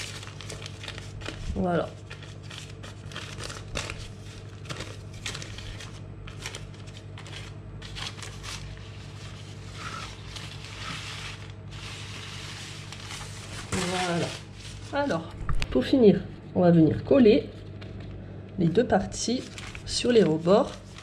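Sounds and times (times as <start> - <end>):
baking paper crinkling: 0.0 - 15.4, 19.0 - 21.0.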